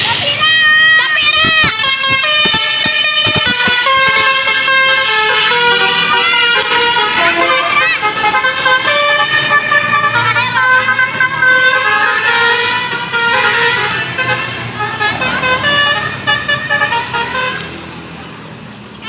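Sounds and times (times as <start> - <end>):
musical bus horn playing tune: 0.2 - 17.8.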